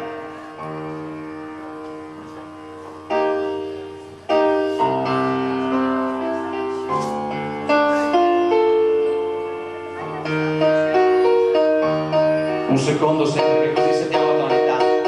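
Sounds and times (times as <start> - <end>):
sustained keyboard chords: 0.0 - 15.0.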